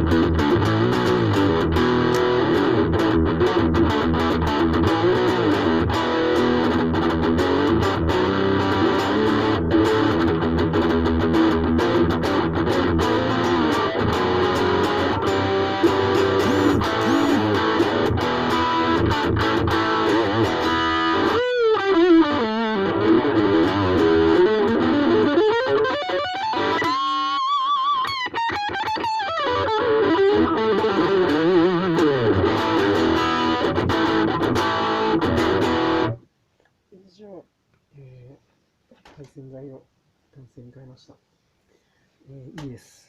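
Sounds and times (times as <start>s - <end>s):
electric guitar playing: 0.0s - 36.2s.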